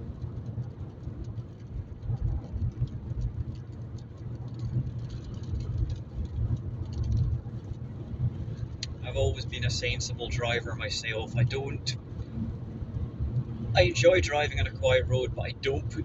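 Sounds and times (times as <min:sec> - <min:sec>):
car cabin road noise: 0:00.0 - 0:16.0
light rain ticking on windscreen: 0:00.0 - 0:16.0.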